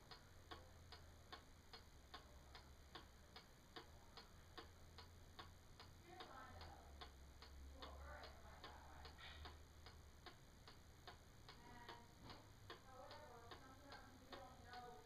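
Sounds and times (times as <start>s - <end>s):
clock ticking: 0.0s - 15.0s.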